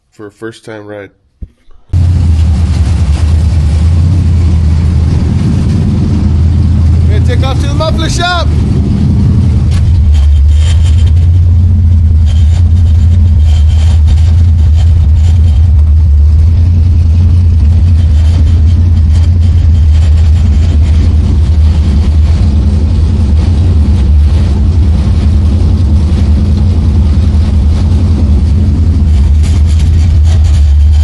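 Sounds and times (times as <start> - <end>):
car engine rumbling: 1.9 - 31.0.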